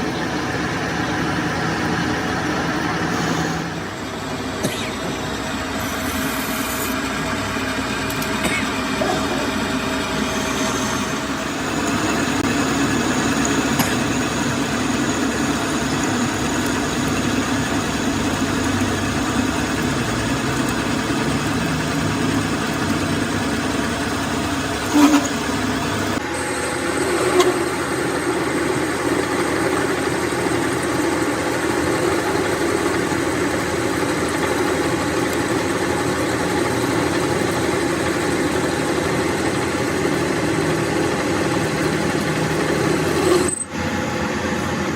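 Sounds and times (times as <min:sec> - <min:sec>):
metal lathe running: 0:00.0 - 0:44.9.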